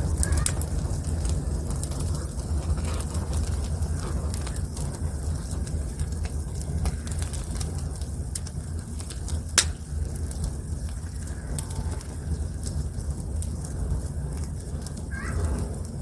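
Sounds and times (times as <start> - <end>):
loud crack of fire: 0.0 - 16.0
wood fire crackling: 0.0 - 16.0.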